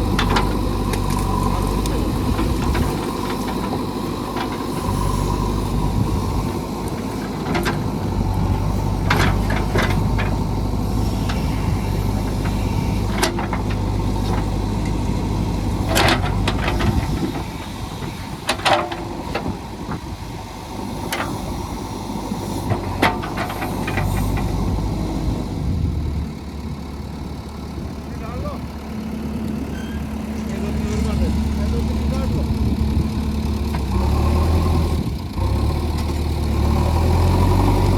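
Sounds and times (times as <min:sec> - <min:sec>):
backhoe diesel engine running: 0:00.0 - 0:37.9.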